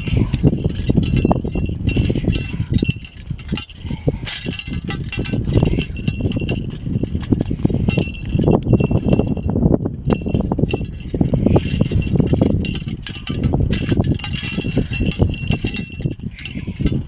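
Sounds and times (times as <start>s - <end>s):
light metallic clinks: 0.0s - 17.0s
thin ringing: 0.0s - 17.0s
wind buffeting microphone: 0.0s - 17.0s.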